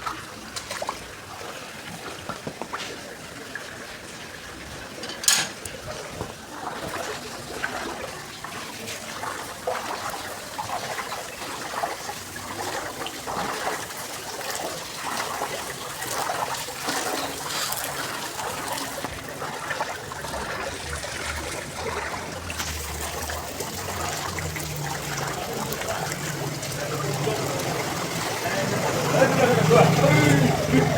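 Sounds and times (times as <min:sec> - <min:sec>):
water splashes: 0:00.0 - 0:30.9
water trickling and sloshing: 0:00.0 - 0:30.9.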